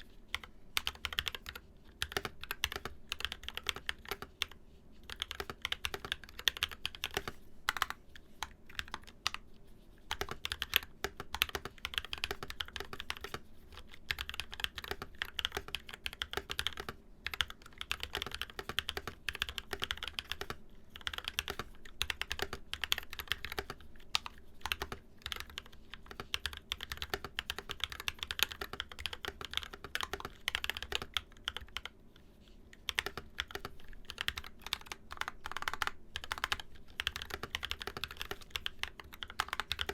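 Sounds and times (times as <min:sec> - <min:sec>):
mechanical keyboard typing: 0:00.3 - 0:09.4, 0:10.1 - 0:31.9, 0:32.8 - 0:39.9.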